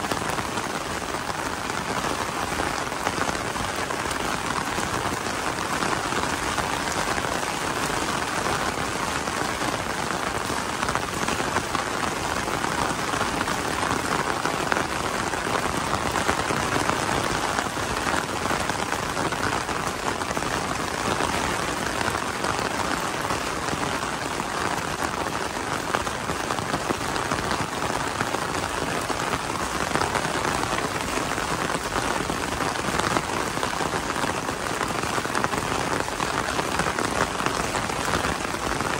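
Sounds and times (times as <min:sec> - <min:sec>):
rain pattering on umbrella: 0:00.0 - 0:38.9.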